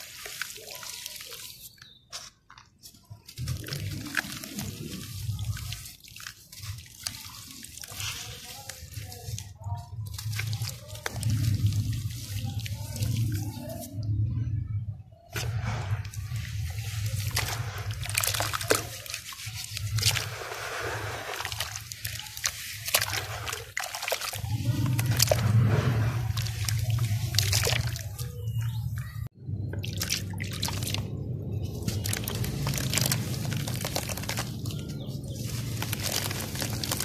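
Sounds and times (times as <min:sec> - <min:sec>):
grains trickling into plastic tub: 0:00.0 - 0:13.8, 0:15.5 - 0:28.6, 0:29.8 - 0:37.0.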